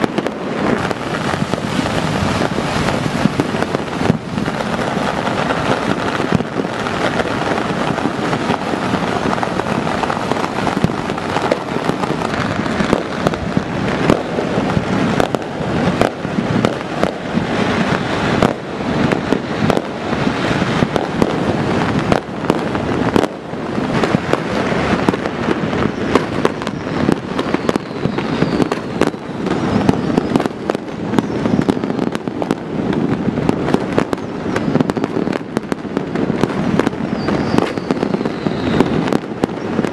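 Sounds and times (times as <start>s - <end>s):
fireworks and firecrackers bangs: 0.0s - 39.9s.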